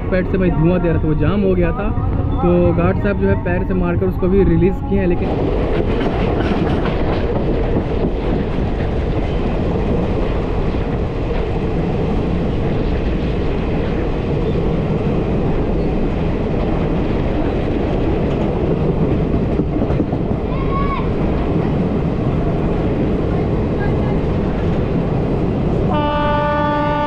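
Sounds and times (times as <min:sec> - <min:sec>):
train rumbling and rattling on track: 0:00.0 - 0:27.0.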